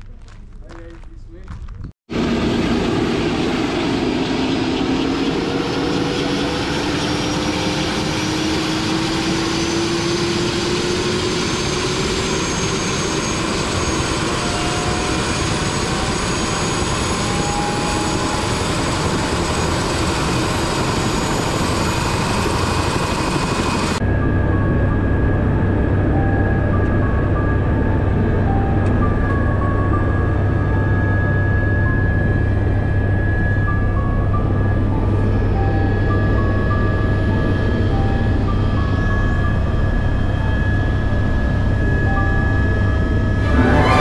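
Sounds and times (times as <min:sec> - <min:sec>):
deep drone inside helicopter cabin: 0:02.1 - 0:43.4
helicopter engine whine winding up: 0:02.1 - 0:44.0.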